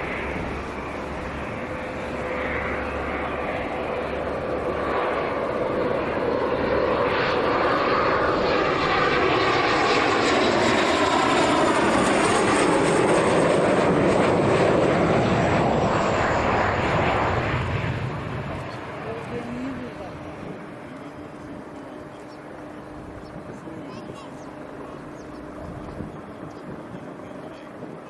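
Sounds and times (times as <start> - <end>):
military aircraft engines roaring: 0.0 - 28.0.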